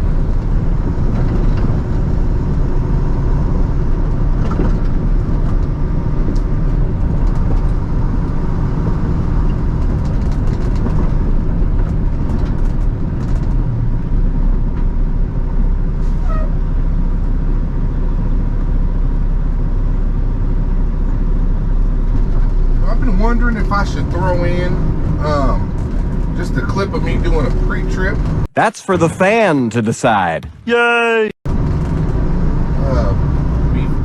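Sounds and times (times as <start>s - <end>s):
truck diesel engine running: 0.0s - 28.5s.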